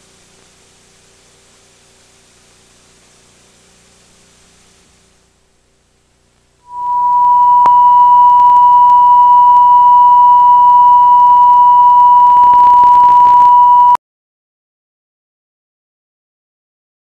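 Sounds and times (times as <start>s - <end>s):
faint crackle: 0.0s - 14.0s
steady sine-wave test tone: 0.0s - 14.0s.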